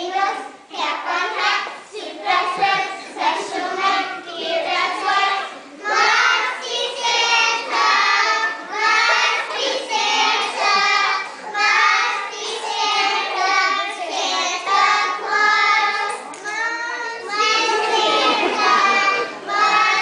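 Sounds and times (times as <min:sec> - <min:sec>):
young children singing: 0:00.0 - 0:20.0.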